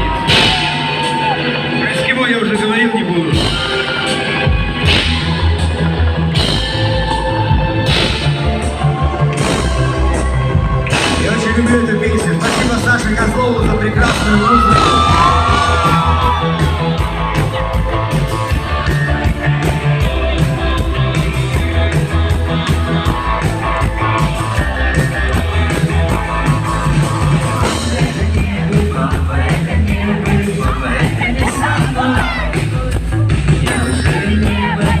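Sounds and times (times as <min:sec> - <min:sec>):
bass guitar: 0:00.0 - 0:02.6, 0:03.2 - 0:35.0
drums: 0:00.0 - 0:35.0
people singing and shouting: 0:00.0 - 0:35.0.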